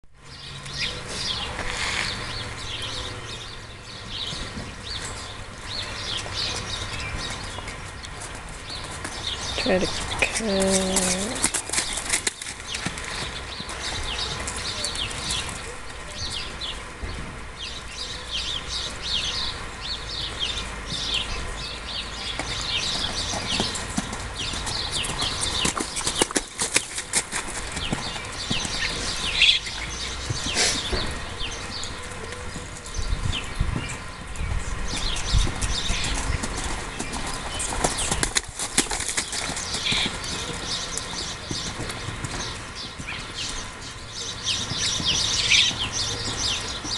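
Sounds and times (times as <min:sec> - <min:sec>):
hoofbeats on sandy dirt: 0:00.4 - 0:46.9.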